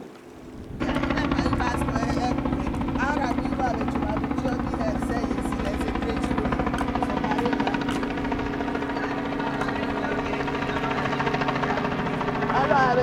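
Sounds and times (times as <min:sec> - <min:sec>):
helicopter rotor drone: 0:00.1 - 0:13.0.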